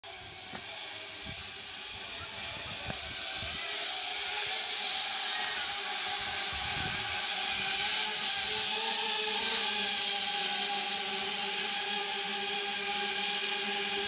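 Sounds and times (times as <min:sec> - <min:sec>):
drone rotors whirring: 0:00.0 - 0:14.0.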